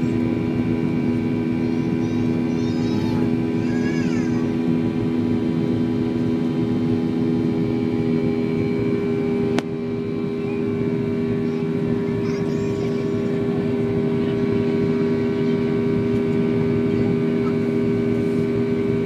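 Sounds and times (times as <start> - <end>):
humming tones: 0.0 - 19.0
jet engine drone in cabin: 0.0 - 19.0.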